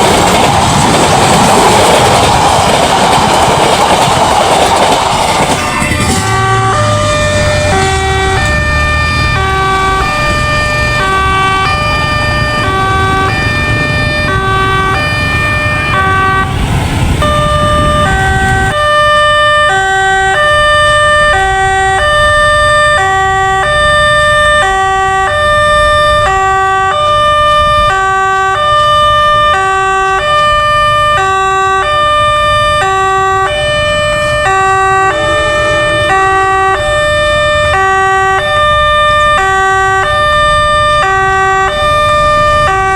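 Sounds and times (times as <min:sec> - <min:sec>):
train rumbling past: 0:00.0 - 0:42.9
level crossing two-tone siren: 0:05.5 - 0:16.6, 0:17.2 - 0:42.9.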